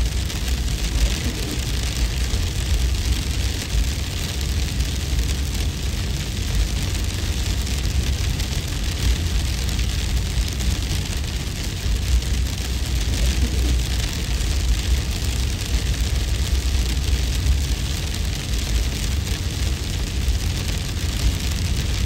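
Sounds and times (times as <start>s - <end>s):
wind storm rumble and hiss: 0.0s - 22.0s.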